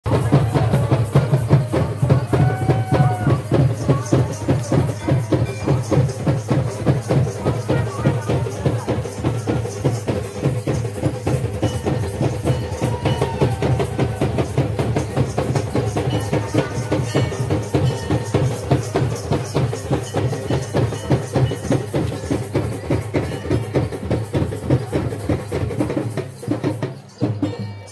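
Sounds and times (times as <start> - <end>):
rapid steady drumming: 0.0 - 27.9.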